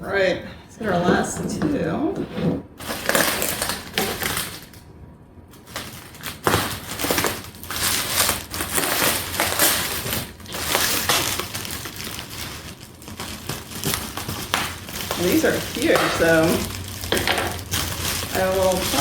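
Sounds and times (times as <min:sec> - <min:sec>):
packing wrap rustling and crumpling: 0:02.8 - 0:04.9, 0:05.5 - 0:19.0.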